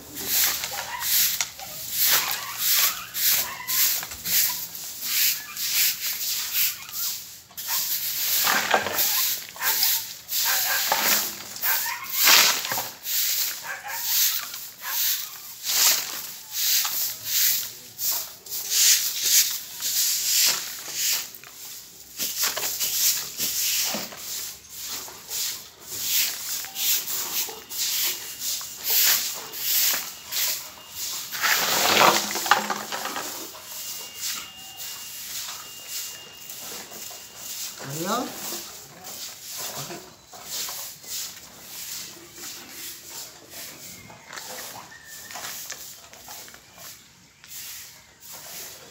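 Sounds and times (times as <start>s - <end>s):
broom sweeping concrete: 0.0s - 48.9s.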